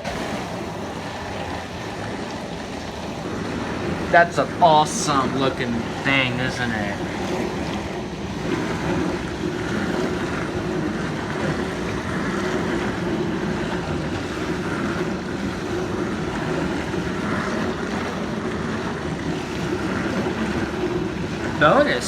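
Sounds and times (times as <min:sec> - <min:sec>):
dishwasher motor hum: 0:00.0 - 0:22.0
water rushing in dishwasher: 0:00.0 - 0:22.0.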